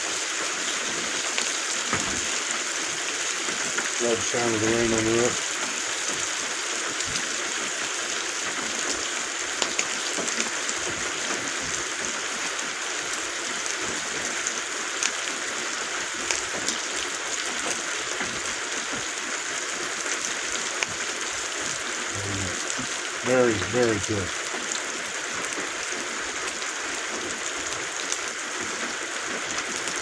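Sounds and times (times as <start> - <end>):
rain on roof: 0.0 - 30.0.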